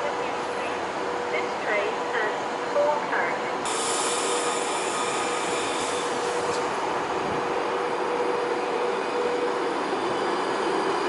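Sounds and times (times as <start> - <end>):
train electrical hum: 0.0 - 11.0.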